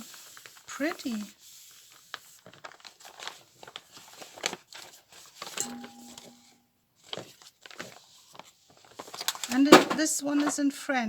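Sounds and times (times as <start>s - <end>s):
paper rustling and crinkling: 0.0s - 6.4s, 7.0s - 10.7s.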